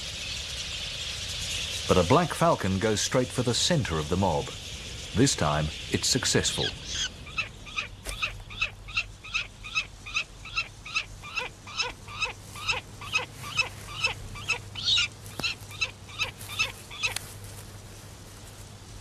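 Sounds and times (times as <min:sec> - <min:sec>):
bird calling: 0:00.0 - 0:17.4.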